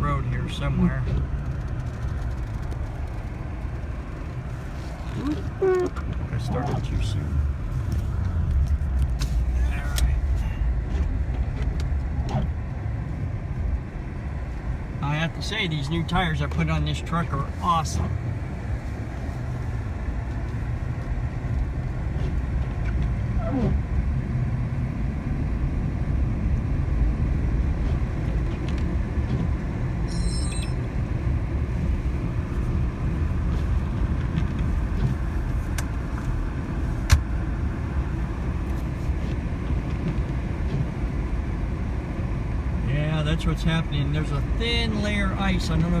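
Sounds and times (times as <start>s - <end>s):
engine and tire rumble: 0.0s - 46.0s.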